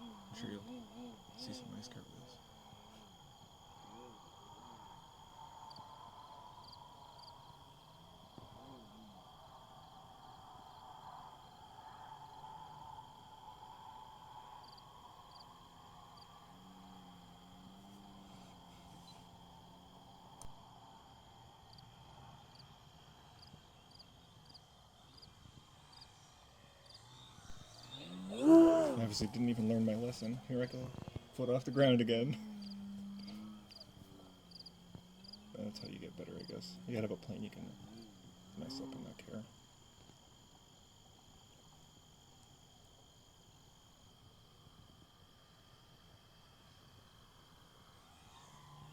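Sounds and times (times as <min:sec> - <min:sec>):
insect trilling: 0:00.0 - 0:20.5, 0:23.8 - 0:42.8, 0:47.7 - 0:48.9
faint steady high hum: 0:00.0 - 0:48.9.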